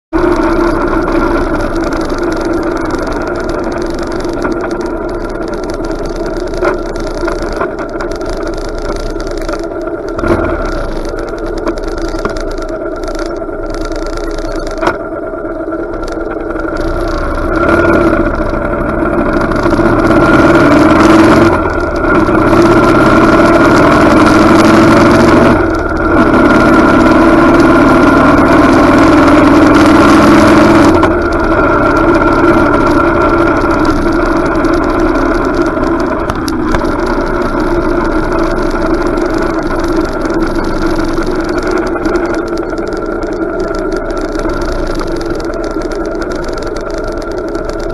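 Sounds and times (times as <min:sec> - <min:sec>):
motorcycle engine running: 0:00.1 - 0:47.9.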